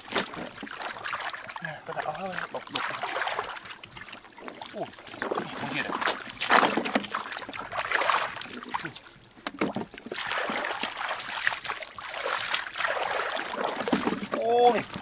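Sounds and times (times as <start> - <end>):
muddy water splashing: 0.0 - 15.0.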